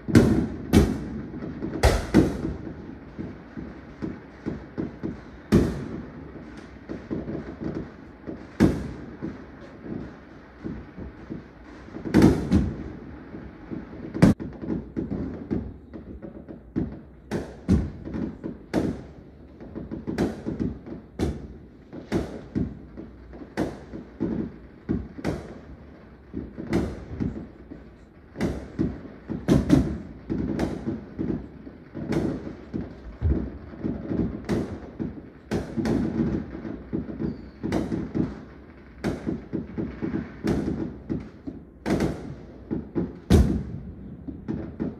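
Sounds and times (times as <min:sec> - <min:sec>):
fireworks exploding: 0:00.0 - 0:44.9.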